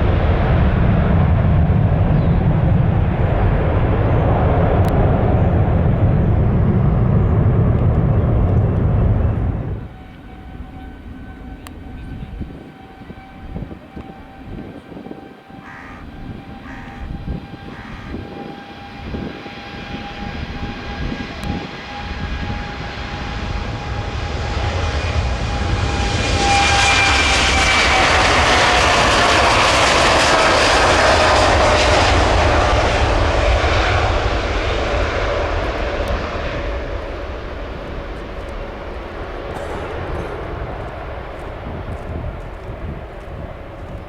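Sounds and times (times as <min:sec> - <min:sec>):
jet taking off: 0:00.0 - 0:44.0
whining jet engine tone: 0:00.0 - 0:44.0.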